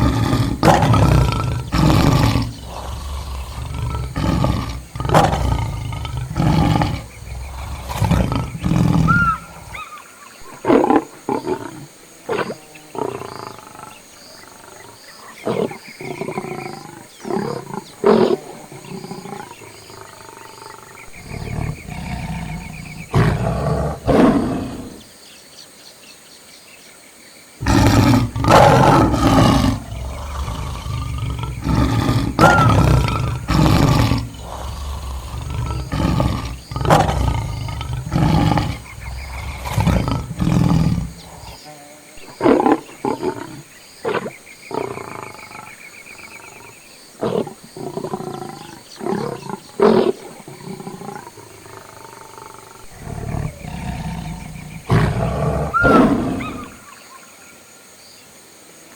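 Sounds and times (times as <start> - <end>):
lions roaring and grunting: 0.0 - 9.9, 10.7 - 25.0, 27.6 - 41.6, 42.2 - 56.9.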